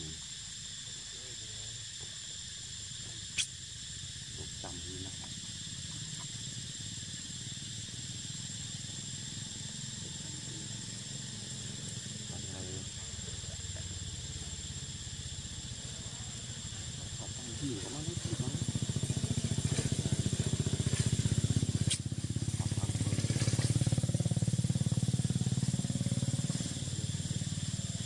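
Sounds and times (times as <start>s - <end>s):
high-pitched insect drone: 0.0s - 28.0s.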